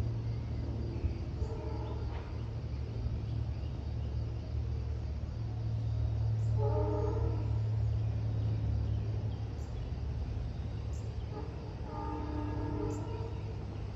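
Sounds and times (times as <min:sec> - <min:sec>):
jet engines rumbling overhead: 0:00.0 - 0:13.9.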